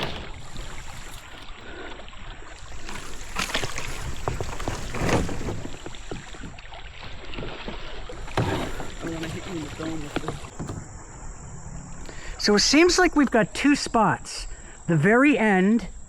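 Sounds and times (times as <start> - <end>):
paddle splashing in water: 0.0 - 13.4.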